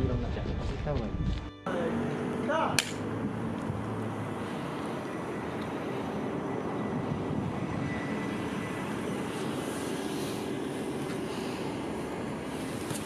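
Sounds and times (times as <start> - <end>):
steady rushing drone: 1.7 - 13.0.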